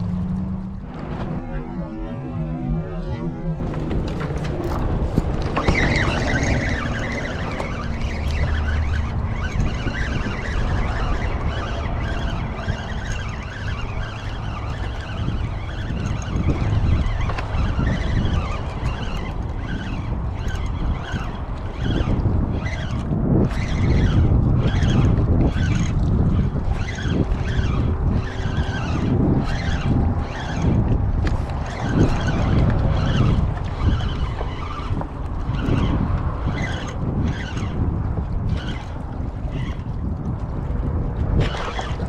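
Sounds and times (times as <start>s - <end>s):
highway traffic: 0.0s - 23.2s, 27.6s - 41.2s.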